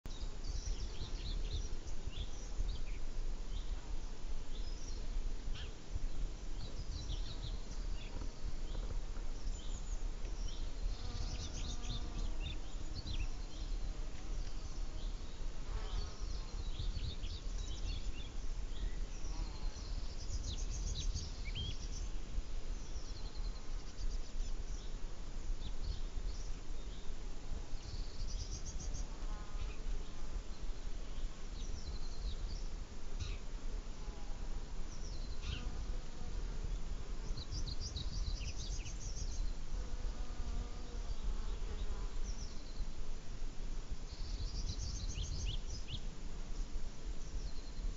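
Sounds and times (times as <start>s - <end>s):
flying insects buzzing: 0.1s - 47.9s.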